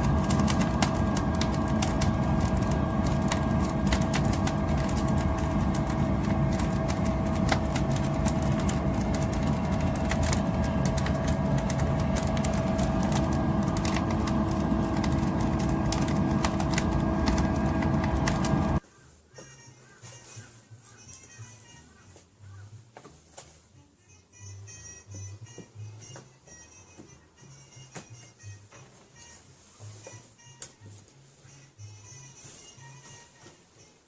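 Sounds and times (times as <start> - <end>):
constant hum: 0.0 - 29.4.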